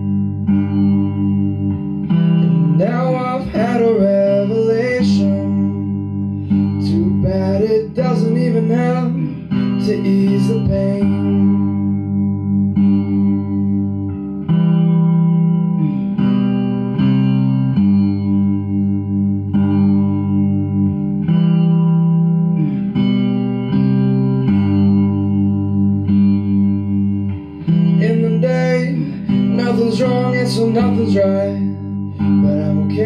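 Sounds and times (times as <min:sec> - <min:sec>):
electric guitar with effects: 0:00.0 - 0:33.0
looped guitar part: 0:00.0 - 0:33.0.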